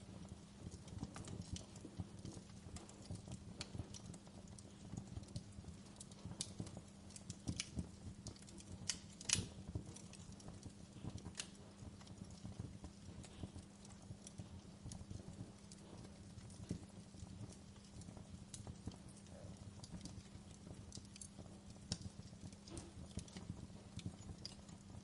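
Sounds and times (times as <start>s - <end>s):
faint steady hum: 0.0s - 25.0s
wood fire crackling and popping: 0.0s - 25.0s.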